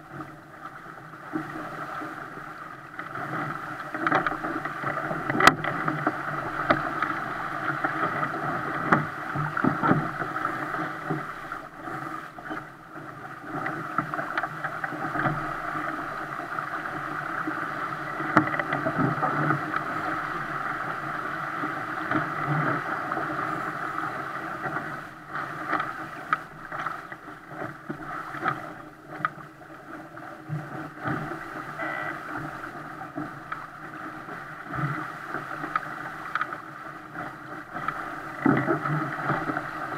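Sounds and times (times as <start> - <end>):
water splashing along boat hull: 0.0 - 39.9.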